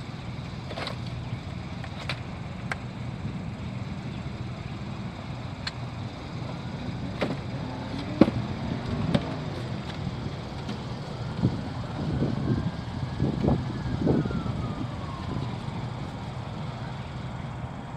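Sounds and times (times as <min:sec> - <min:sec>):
low traffic rumble: 0:00.0 - 0:17.9.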